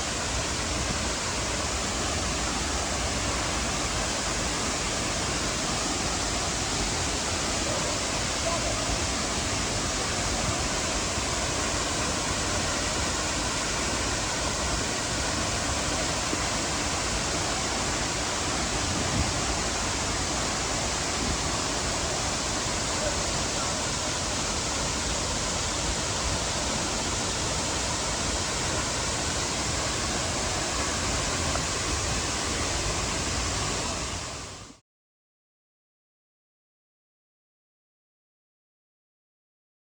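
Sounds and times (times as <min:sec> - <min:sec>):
waterfall pouring: 0:00.0 - 0:34.3.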